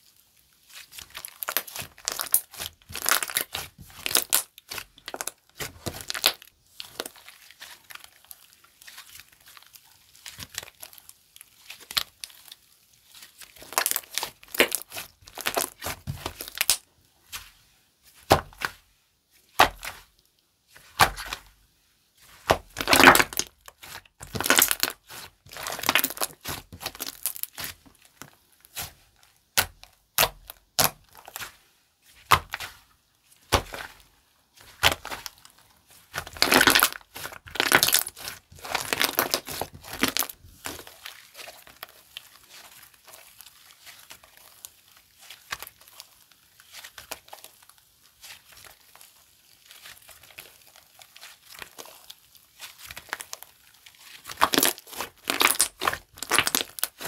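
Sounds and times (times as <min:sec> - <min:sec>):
slime squished by hand: 0:00.1 - 0:17.5, 0:20.8 - 0:21.5, 0:22.2 - 0:32.8, 0:33.4 - 0:57.0.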